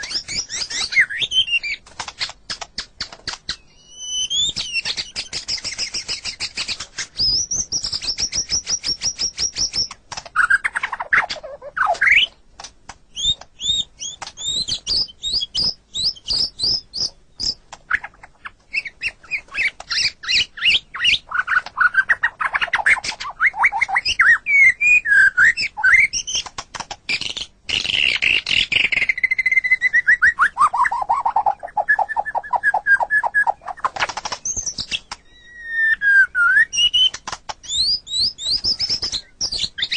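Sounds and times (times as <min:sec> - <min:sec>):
songbird singing: 0:00.0 - 0:12.4, 0:13.1 - 0:39.9.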